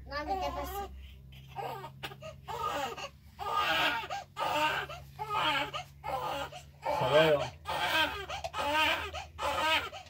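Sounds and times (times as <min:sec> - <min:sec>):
baby crying: 0:00.3 - 0:10.0.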